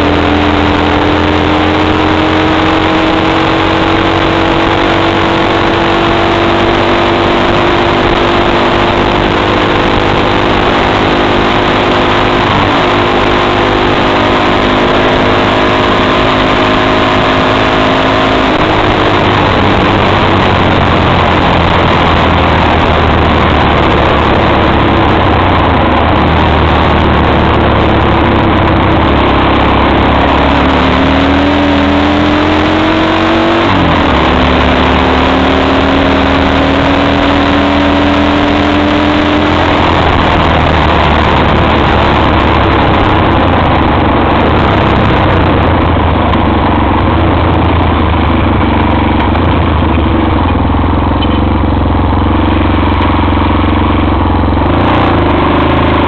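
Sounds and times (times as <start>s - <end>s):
loud steady rushing noise: 0.0s - 56.0s
quad engine running: 0.0s - 56.0s.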